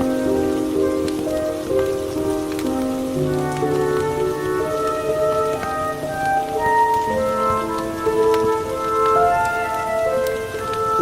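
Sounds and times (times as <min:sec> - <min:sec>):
slow classical music: 0:00.0 - 0:11.0
steady rain: 0:00.0 - 0:11.0.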